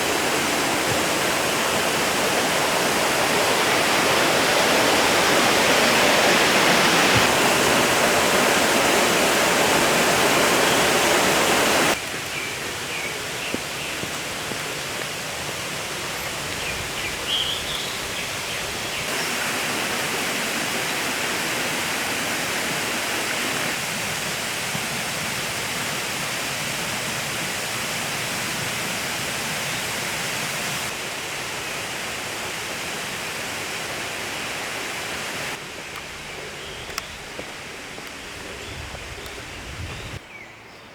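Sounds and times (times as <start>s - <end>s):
mountain stream rushing: 0.0s - 40.2s.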